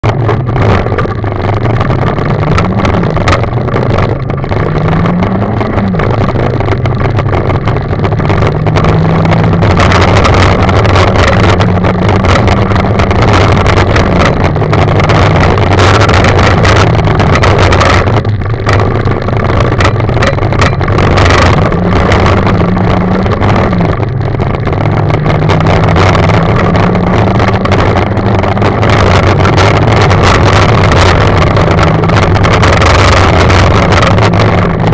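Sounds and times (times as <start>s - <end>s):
gravel and tyre noise: 0.0s - 34.9s
rally car engine at full throttle: 0.0s - 34.9s.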